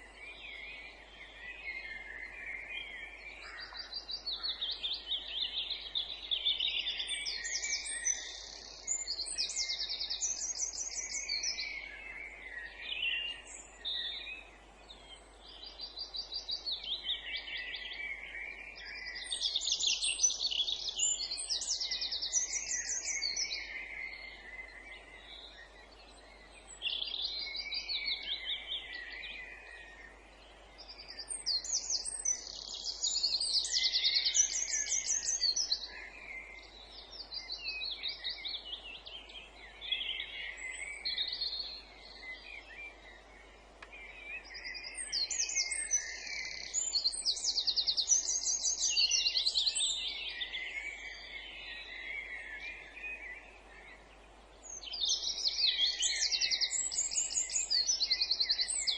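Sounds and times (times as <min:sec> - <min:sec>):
faint background hiss: 0:00.0 - 0:58.9
songbirds singing: 0:00.0 - 0:58.9.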